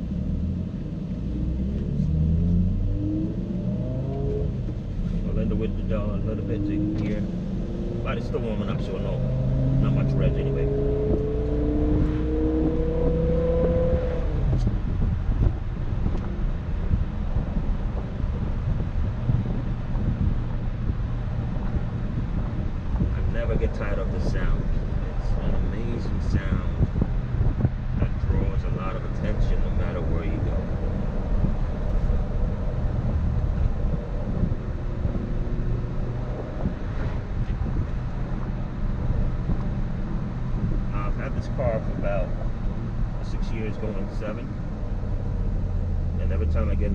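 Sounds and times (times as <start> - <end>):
car engine accelerating: 0.0 - 46.9
road and wind noise: 0.0 - 46.9.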